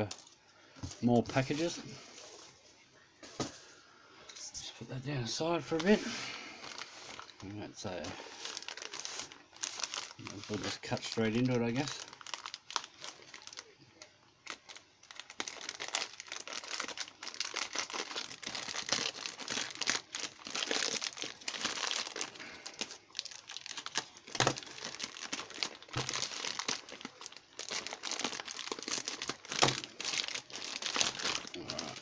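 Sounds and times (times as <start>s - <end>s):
parcel wrapping crinkling and tearing: 5.6s - 32.0s.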